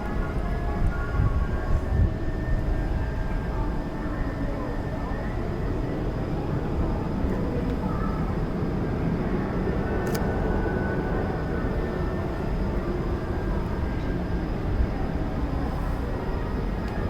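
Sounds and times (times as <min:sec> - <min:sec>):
crowd ambience rumble: 0:00.0 - 0:17.0.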